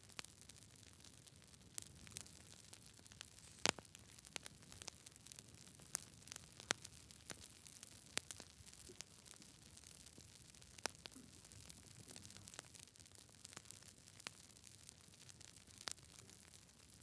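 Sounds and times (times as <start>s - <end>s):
faint low hiss: 0.0s - 17.0s
wood crackling and popping: 0.0s - 17.0s.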